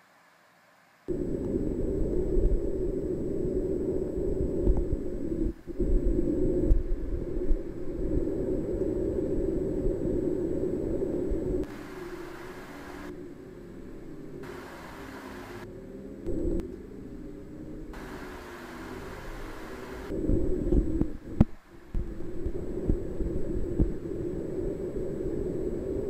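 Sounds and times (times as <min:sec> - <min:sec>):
loud low rumbling noise: 0:01.1 - 0:26.0.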